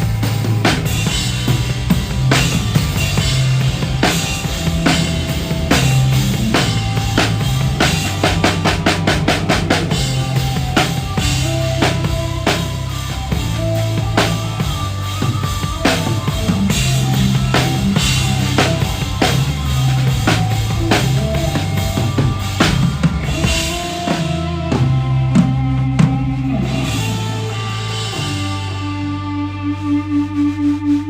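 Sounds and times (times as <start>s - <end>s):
drum kit beat: 0.0s - 31.0s
live band playing: 0.0s - 31.0s.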